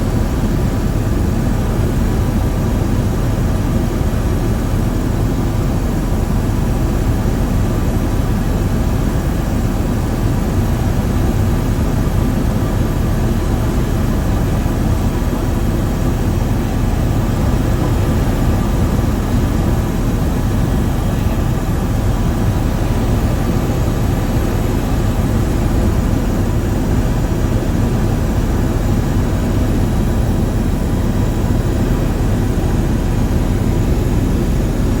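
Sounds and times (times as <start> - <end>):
light aircraft engine drone: 0.0 - 35.0.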